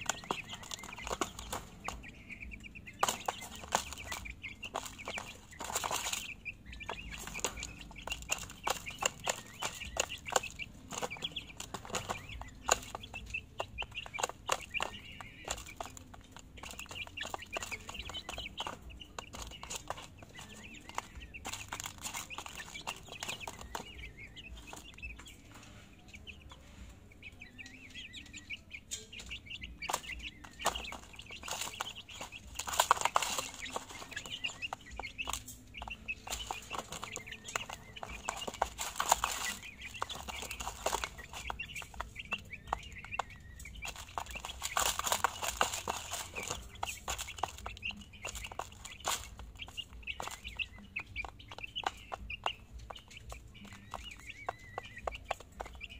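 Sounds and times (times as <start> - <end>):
beaks tapping on plastic: 0.0 - 55.9
chicks cheeping: 0.0 - 55.9.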